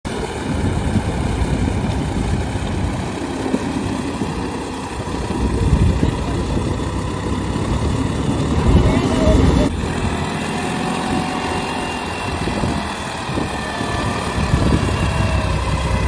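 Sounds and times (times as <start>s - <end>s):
tractor engines under load: 0.1s - 16.0s.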